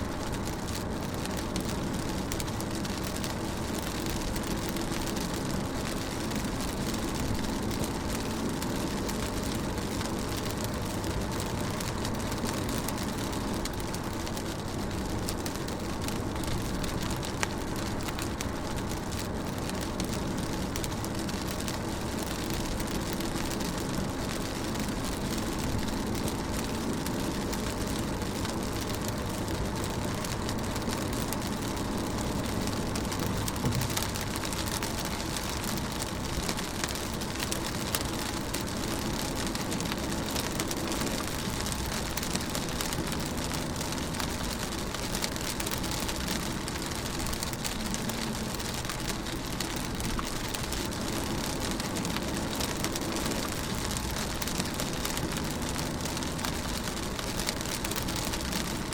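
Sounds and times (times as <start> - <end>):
engine and road rumble: 0.0 - 58.9
rain drumming on car: 0.0 - 58.9
raindrop ticks: 0.0 - 58.9.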